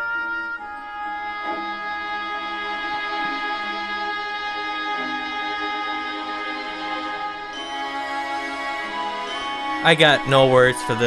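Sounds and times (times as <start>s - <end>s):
orchestral bowed strings: 0.0s - 11.0s.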